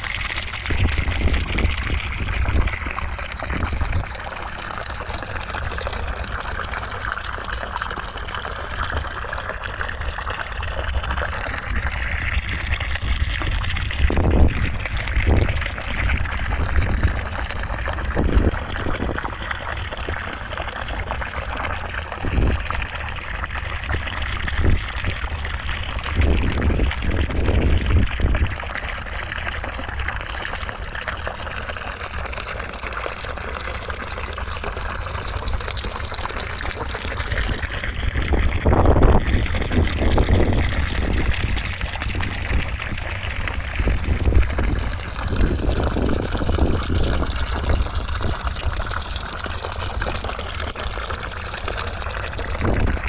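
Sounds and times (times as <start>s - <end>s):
running water rushing: 0.0s - 53.0s.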